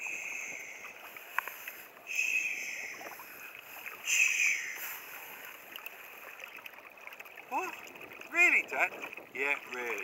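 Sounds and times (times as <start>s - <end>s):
waves lapping against kayak hull: 0.0s - 10.0s.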